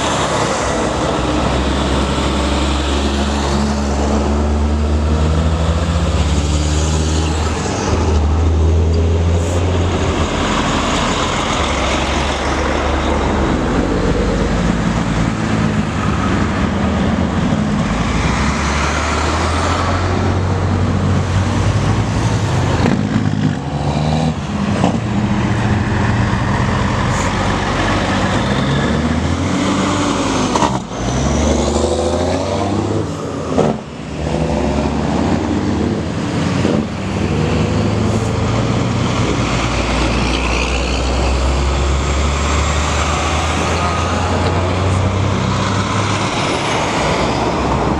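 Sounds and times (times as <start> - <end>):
diesel truck engines droning: 0.0 - 47.9.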